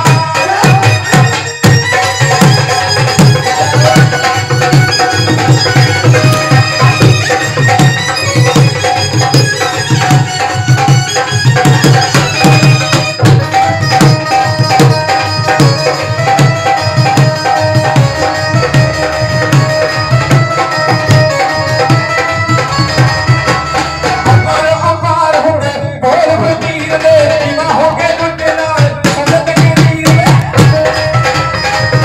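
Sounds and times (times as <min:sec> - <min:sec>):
held instrumental melody: 0:00.0 - 0:25.8, 0:26.4 - 0:32.0
hand drum fast rhythm: 0:00.0 - 0:32.0.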